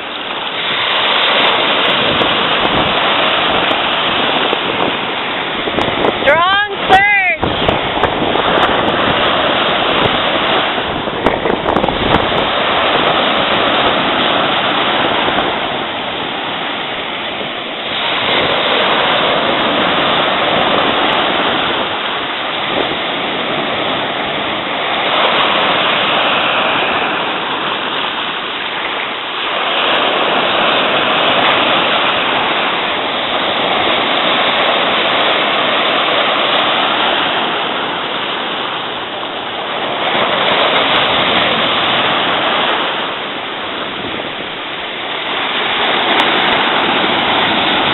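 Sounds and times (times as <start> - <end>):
ocean surf washing: 0.0 - 47.9.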